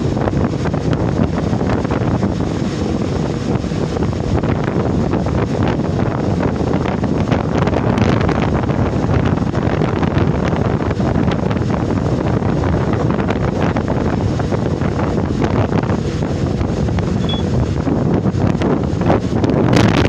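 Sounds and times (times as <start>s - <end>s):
ship and waves: 0.0s - 20.0s
wind buffeting microphone: 0.0s - 20.0s.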